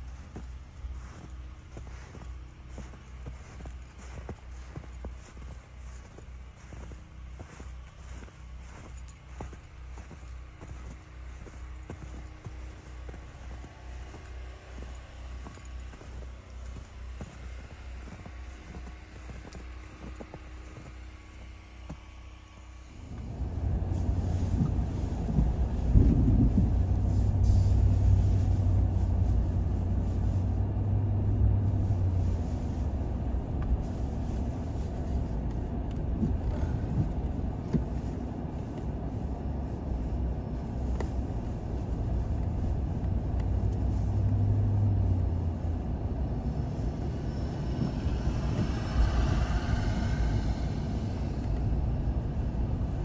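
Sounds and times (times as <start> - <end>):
engine and tyre rumble: 0.0 - 53.0
low hum: 0.0 - 53.0.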